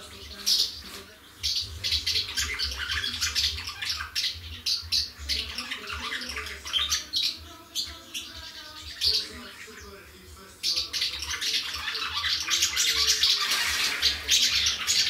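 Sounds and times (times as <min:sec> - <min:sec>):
swallows twittering: 0:00.0 - 0:15.0.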